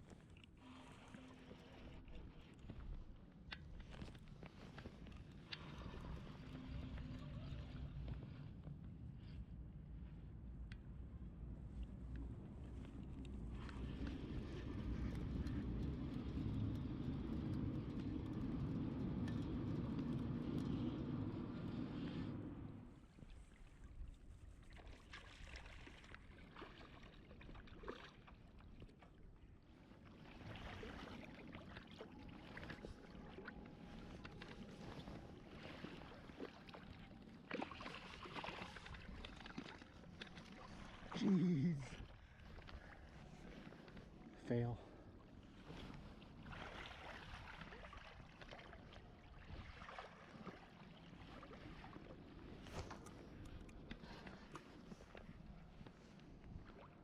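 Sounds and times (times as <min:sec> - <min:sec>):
moving water: 0:00.0 - 0:57.0.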